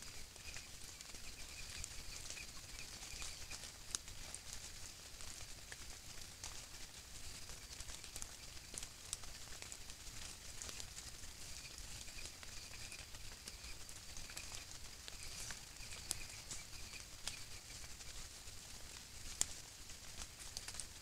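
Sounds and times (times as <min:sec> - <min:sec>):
crackling of dry leaf litter: 0:00.0 - 0:21.0
night insects trilling: 0:00.0 - 0:21.0.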